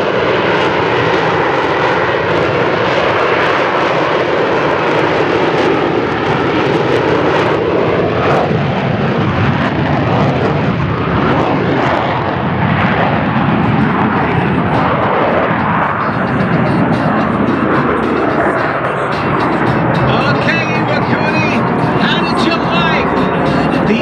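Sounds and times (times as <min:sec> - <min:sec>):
jet engine hovering: 0:00.0 - 0:24.0.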